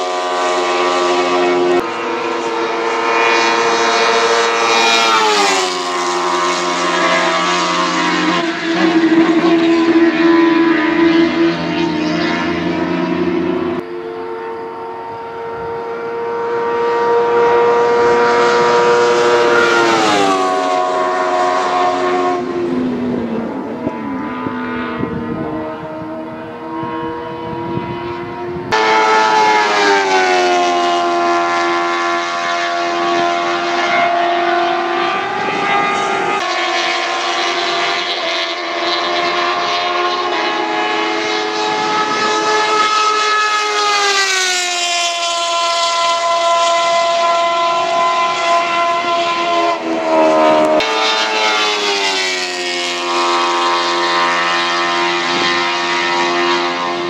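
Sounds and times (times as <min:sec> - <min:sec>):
race cars passing at speed: 0:00.0 - 0:57.0.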